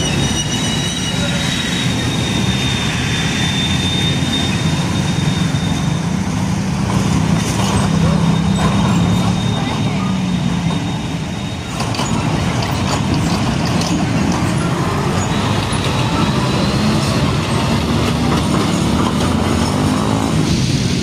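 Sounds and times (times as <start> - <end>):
diesel trucks passing: 0.0 - 21.0
tyre and road noise: 0.0 - 21.0.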